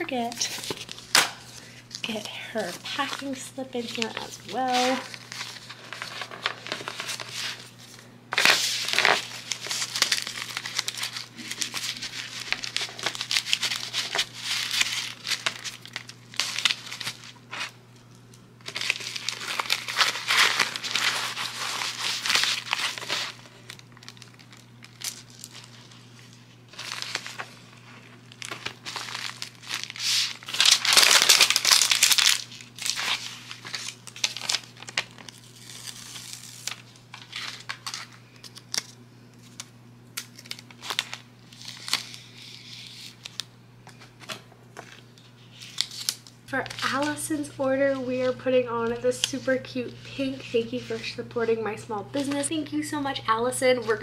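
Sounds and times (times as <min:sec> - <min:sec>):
plastic and paper crinkling: 0:00.0 - 0:52.6.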